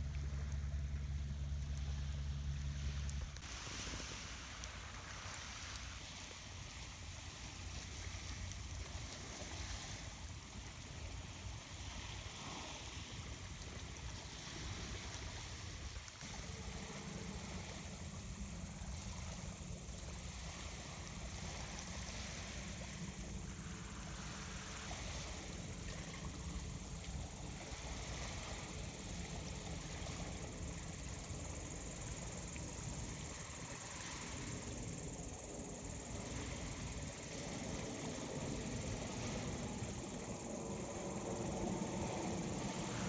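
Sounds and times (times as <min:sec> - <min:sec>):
sea waves washing onto shore: 0:02.8 - 0:43.0.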